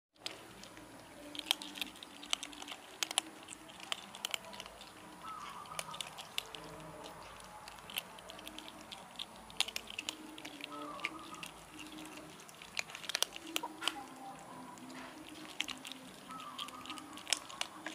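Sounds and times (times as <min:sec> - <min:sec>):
kittens crunching dry kibble: 0:00.2 - 0:17.9.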